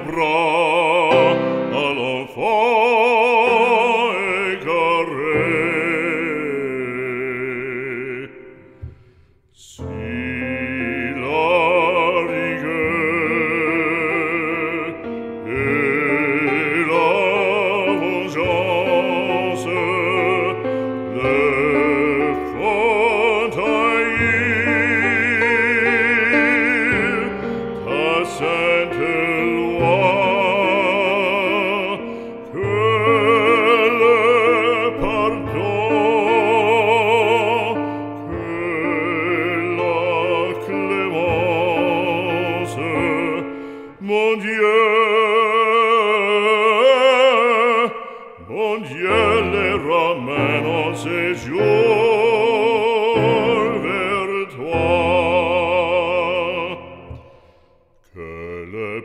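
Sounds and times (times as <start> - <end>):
operatic singer with vibrato: 0.0 - 59.0.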